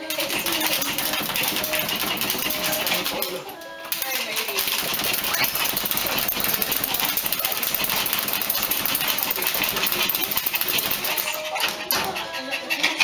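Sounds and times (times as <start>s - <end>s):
dog claws scratching wire cage: 0.0s - 13.0s.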